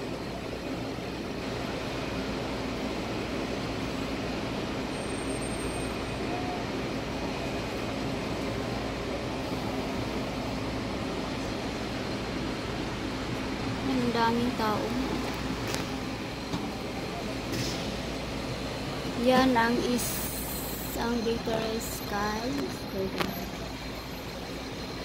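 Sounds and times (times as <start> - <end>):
idling engines and city traffic: 0.0 - 25.0.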